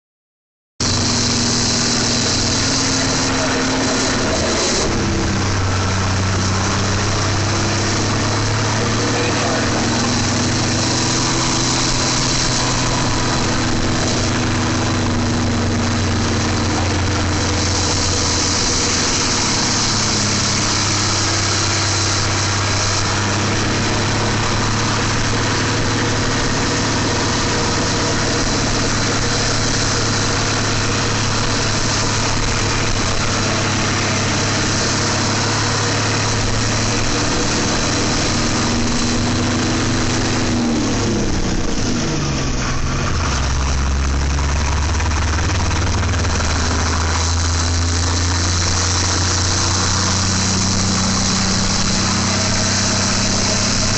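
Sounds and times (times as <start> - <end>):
diesel engine idling: 0.8 - 53.9.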